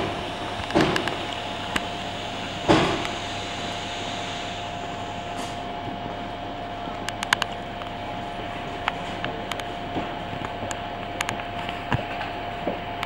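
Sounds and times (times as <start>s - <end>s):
thin constant whine: 0.0s - 13.0s
train hum: 0.0s - 13.0s.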